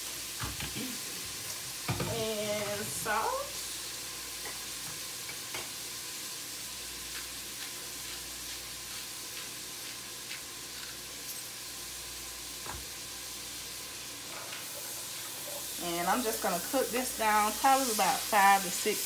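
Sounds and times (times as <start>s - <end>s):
vegetables sizzling in fat: 0.0s - 19.0s.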